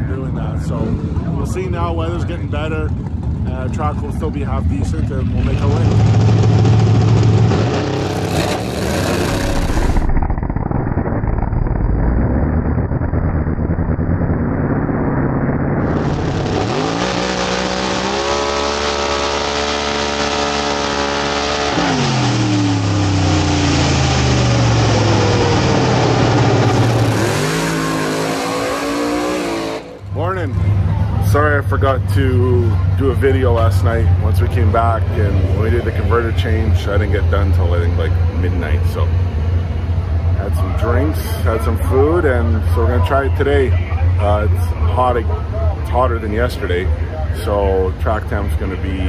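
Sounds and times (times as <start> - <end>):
race car engine at full throttle: 0.0 - 49.0.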